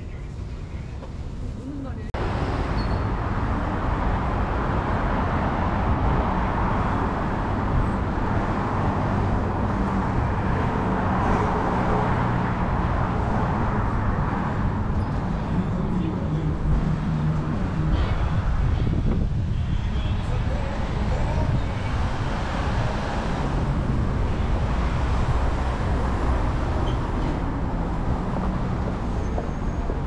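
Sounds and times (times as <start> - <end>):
street traffic passing: 0.0 - 30.0.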